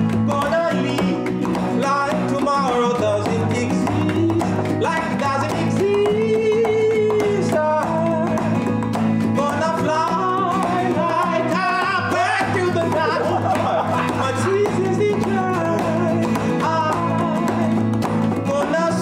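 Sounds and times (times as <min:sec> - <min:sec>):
man singing with vibrato: 0:00.0 - 0:19.0
strummed acoustic guitar: 0:00.0 - 0:19.0.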